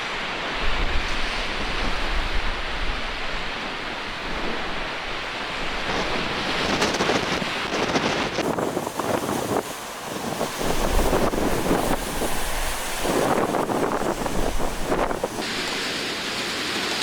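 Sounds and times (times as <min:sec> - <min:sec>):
wind buffeting microphone: 0:00.0 - 0:15.8
surf breaking on shore: 0:00.0 - 0:17.0.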